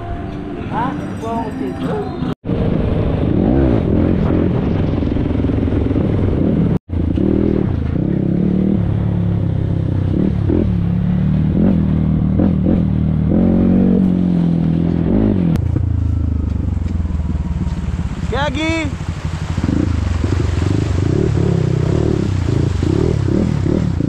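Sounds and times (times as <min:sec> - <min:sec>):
vehicle engine revving: 0:02.5 - 0:24.0.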